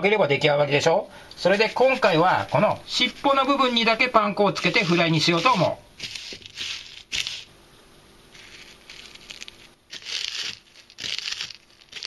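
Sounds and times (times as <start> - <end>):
breadcrumbs rustling crunchily: 1.4 - 7.5, 8.3 - 12.0.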